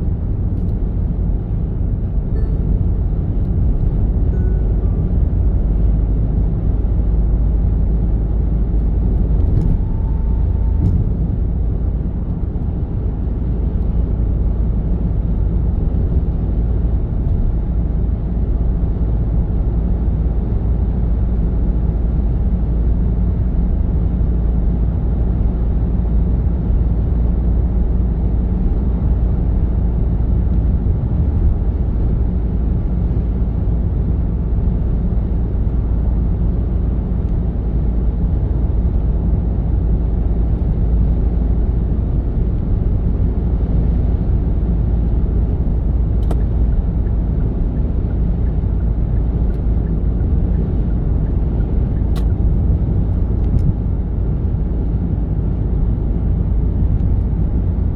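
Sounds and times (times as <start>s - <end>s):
moving vehicle rumble: 0.0s - 57.9s.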